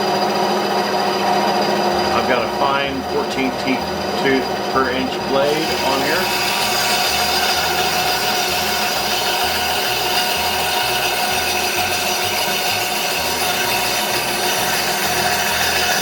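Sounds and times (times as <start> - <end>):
bandsaw sawing wood: 2.0 - 16.0.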